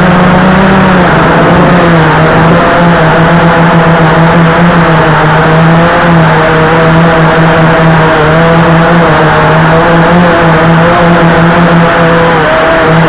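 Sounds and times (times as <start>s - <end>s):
quadcopter motors buzzing: 0.0s - 13.0s.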